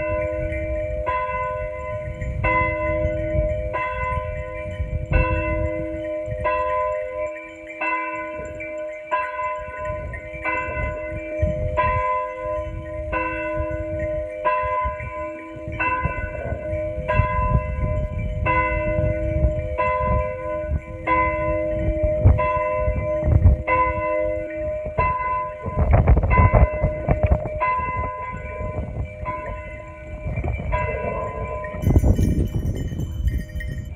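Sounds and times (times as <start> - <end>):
church bell tolling: 0.0 - 33.9.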